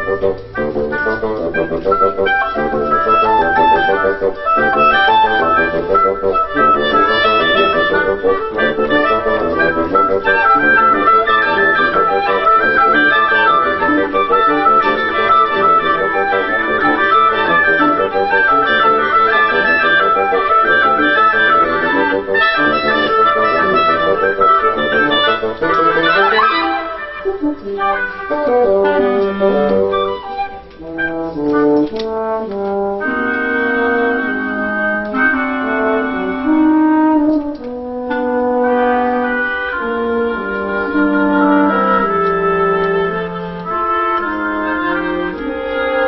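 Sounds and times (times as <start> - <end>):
woodwind quintet playing: 0.0 - 46.0.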